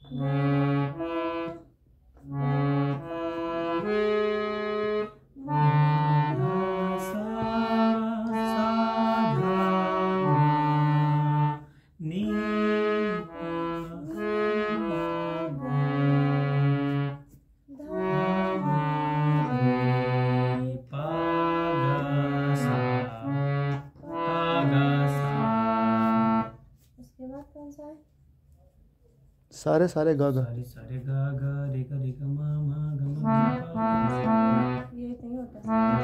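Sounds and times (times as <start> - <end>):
harmonium playing scales: 0.0 - 26.6, 32.9 - 36.0.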